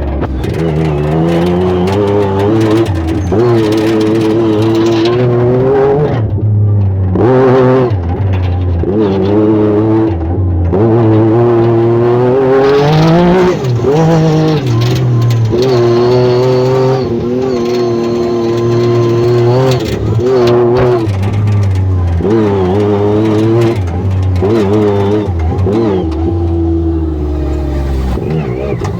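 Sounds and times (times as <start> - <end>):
engine revving off-road: 0.0 - 28.9.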